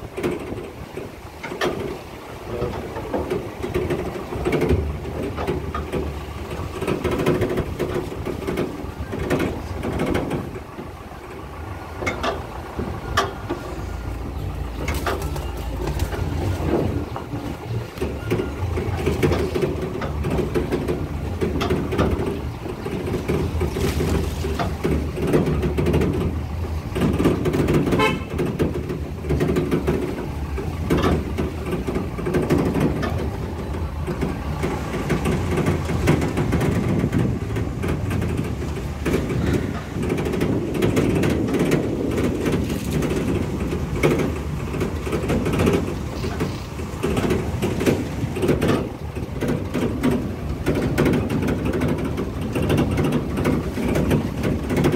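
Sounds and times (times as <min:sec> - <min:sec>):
car engine and road rumble: 0:00.0 - 0:54.9
knocks and rattles over bumps: 0:00.0 - 0:54.9.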